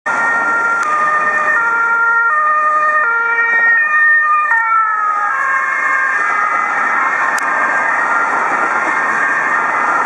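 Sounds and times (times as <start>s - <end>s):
traffic noise: 0.1s - 10.0s
two-tone sirens: 0.1s - 10.0s.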